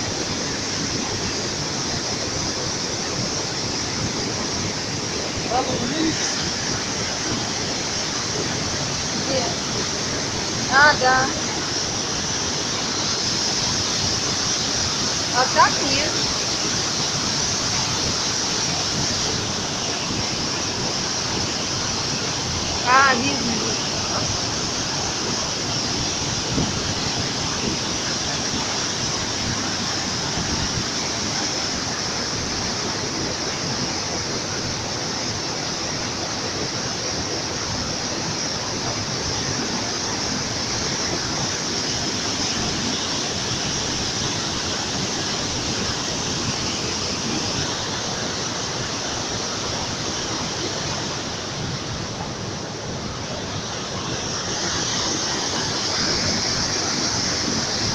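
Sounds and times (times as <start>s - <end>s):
waterfall: 0.0s - 57.9s.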